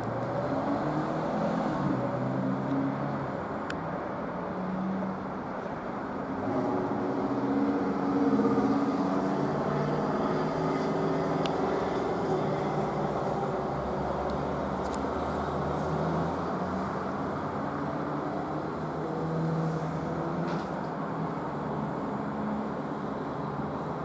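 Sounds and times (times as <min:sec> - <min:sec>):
car engines passing: 0:00.0 - 0:24.0.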